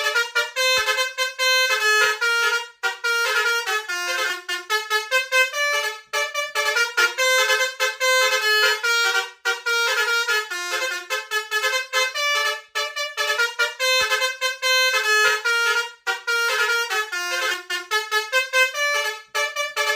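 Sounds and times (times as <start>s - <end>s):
musical bus horn playing a tune: 0.0s - 19.9s.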